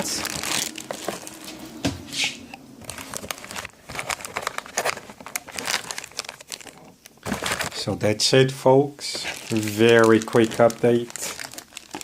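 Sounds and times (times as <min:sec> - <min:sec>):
packaging crinkling and rustling: 0:00.0 - 0:01.7, 0:02.8 - 0:12.0.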